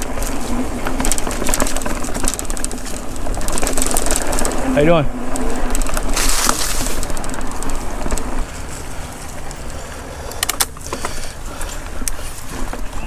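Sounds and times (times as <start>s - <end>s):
bike rattling: 0.0s - 13.0s
tyre and wind noise: 0.0s - 13.0s.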